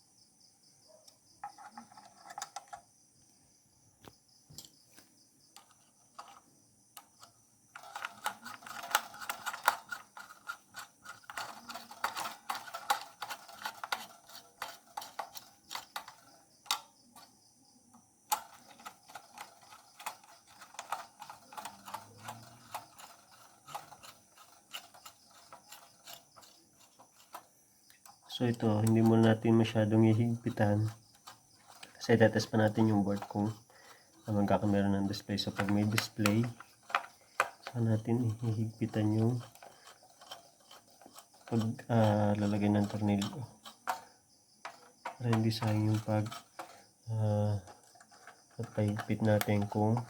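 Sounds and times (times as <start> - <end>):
screwdriver clicking and ratcheting: 5.6 - 6.4, 7.0 - 17.3, 18.3 - 46.9, 47.6 - 50.0.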